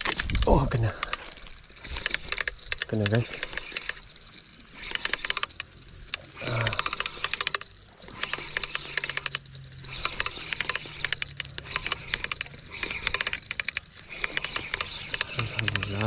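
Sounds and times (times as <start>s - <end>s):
fishing reel clicking rattle: 0.0s - 16.0s.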